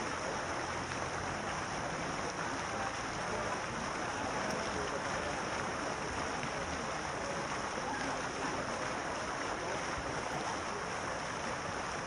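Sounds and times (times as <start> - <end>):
faint distant voices: 0.0 - 12.0
pool water noise: 0.0 - 12.0.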